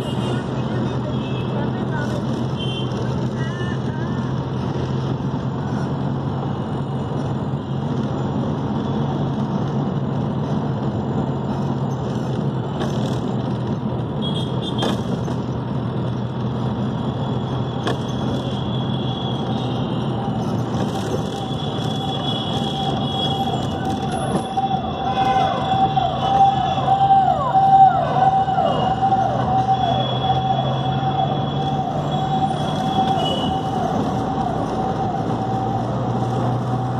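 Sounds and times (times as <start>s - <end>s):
car engine drone and road noise: 0.0s - 36.9s.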